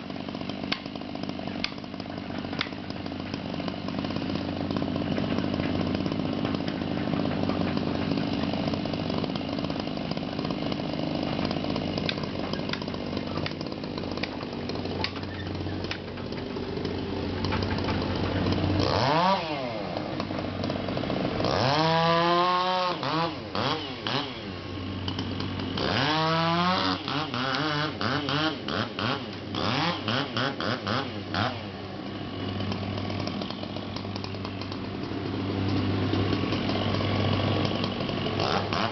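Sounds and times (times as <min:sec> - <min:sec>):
chainsaw revving: 0:00.0 - 0:38.9
excavator engine hum: 0:00.0 - 0:38.9.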